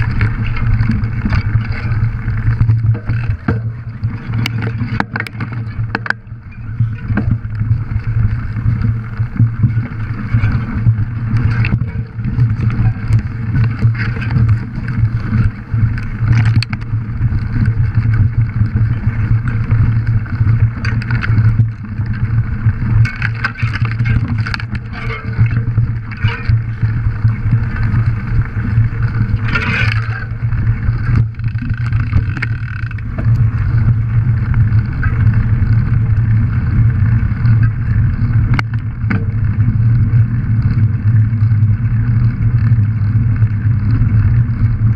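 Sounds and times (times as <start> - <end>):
bicycle tyres rolling over rough ground: 0.0 - 44.9
bike knocks and rattles: 0.0 - 44.9.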